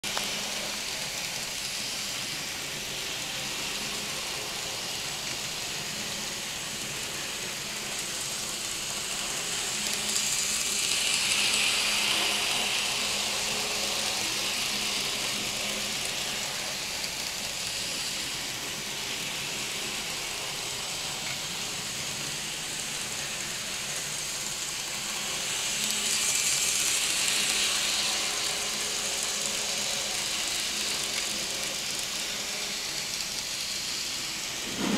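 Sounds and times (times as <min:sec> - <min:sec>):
model train running on track: 0:00.0 - 0:34.9.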